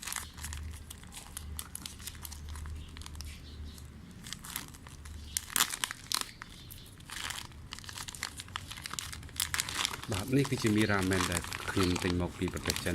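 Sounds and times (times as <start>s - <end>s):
plastic sachets crinkling: 0.0s - 12.9s.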